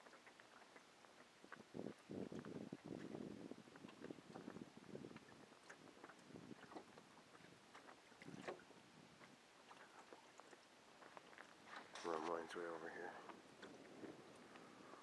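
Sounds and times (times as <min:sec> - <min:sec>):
light wind: 0:00.0 - 0:15.0
small waves lapping against hull: 0:00.0 - 0:15.0.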